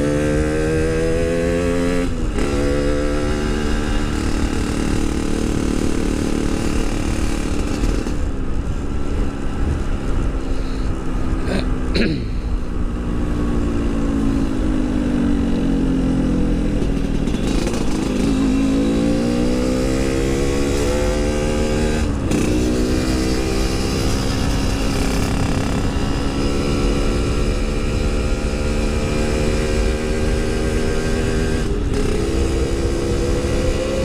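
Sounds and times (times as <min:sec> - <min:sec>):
low wind rumble: 0:00.0 - 0:34.0
motorcycle engine accelerating: 0:00.0 - 0:34.0.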